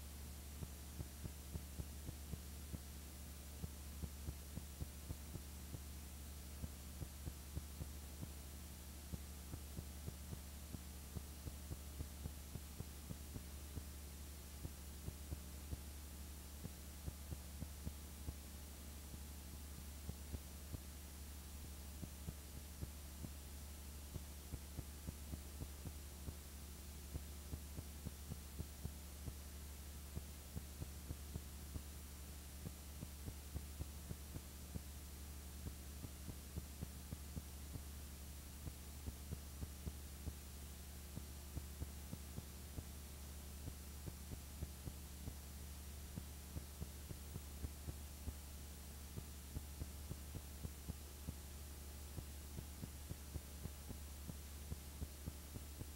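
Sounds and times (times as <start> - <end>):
low electrical hum: 0.0 - 55.9.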